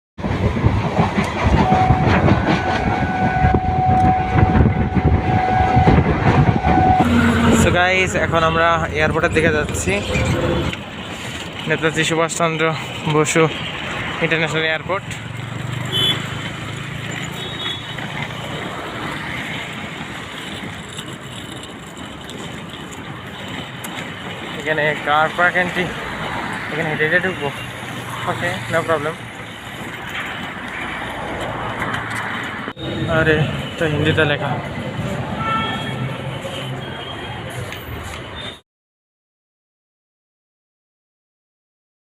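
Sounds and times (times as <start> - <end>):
vehicle rumbling and rattling: 0.2 - 38.6.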